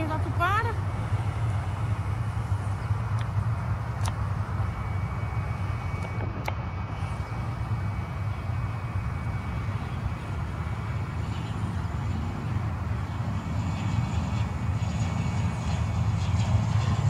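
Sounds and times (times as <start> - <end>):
turboprop airliner drone: 0.0 - 17.0.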